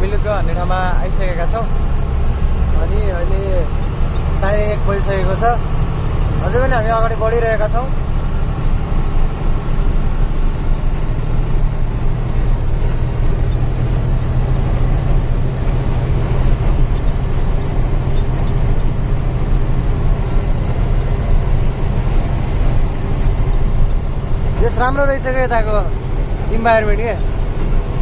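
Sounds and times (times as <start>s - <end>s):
truck diesel engine droning: 0.0s - 28.0s.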